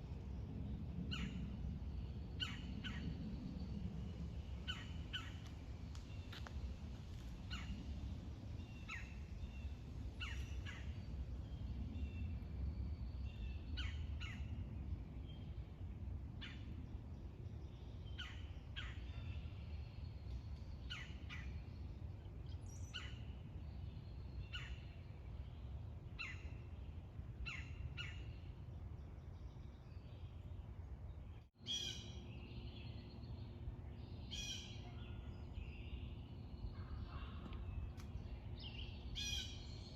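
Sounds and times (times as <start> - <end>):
low background rumble: 0.0 - 39.9.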